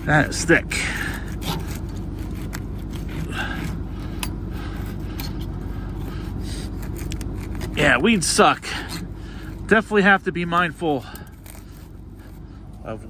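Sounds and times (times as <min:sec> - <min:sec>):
low engine rumble: 0:00.0 - 0:13.0
weeds being cut and scraped: 0:00.0 - 0:13.0.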